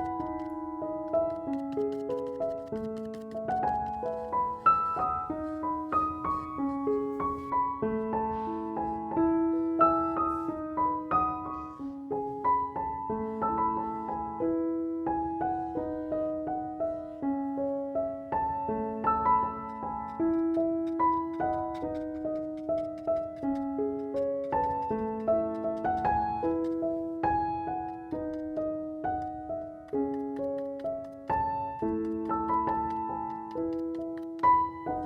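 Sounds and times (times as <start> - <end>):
gentle piano melody: 0.0 - 35.0.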